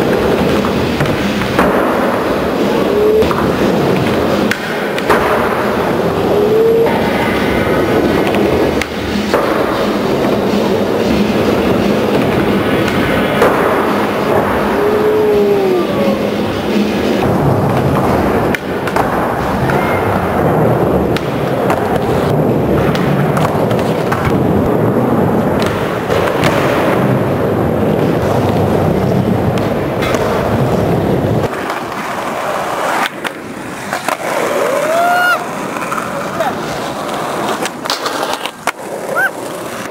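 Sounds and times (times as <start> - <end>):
skateboard clacking: 0.0 - 39.9
skateboard wheels rumbling: 0.0 - 39.9.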